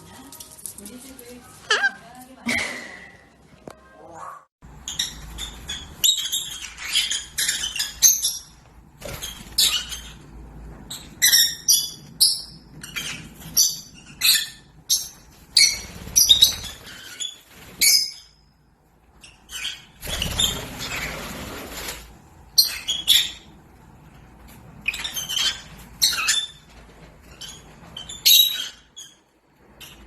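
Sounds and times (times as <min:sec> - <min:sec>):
parrot chirping and squawking: 0:01.5 - 0:02.1, 0:04.0 - 0:10.3, 0:10.9 - 0:18.4, 0:19.2 - 0:24.2, 0:24.8 - 0:30.0.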